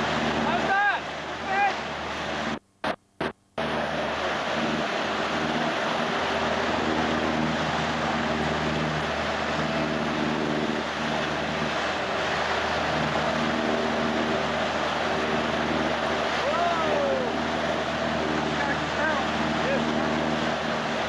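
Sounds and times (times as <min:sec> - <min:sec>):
wind and water rushing: 0:00.0 - 0:02.6, 0:03.6 - 0:21.0
motorboat engine running: 0:00.0 - 0:21.0.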